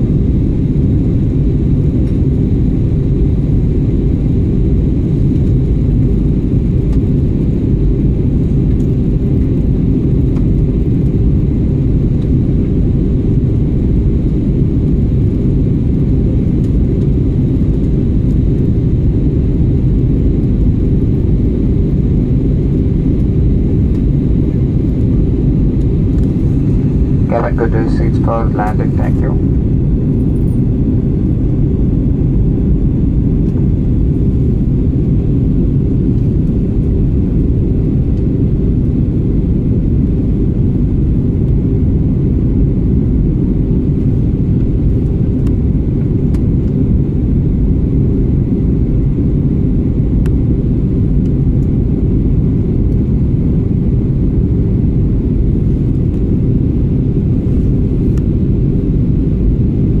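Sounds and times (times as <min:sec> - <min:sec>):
airliner cabin engine rumble: 0:00.0 - 1:00.0.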